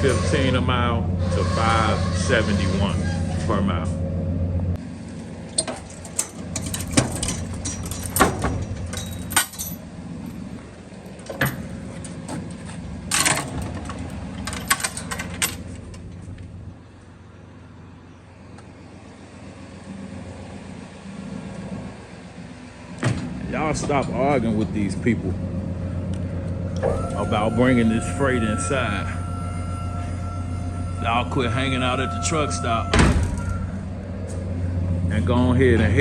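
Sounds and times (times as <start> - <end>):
vehicle hum: 0.0 - 36.0.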